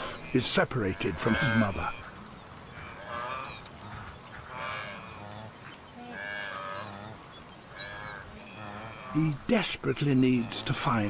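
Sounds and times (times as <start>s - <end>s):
wildebeest calling: 0.0s - 11.0s.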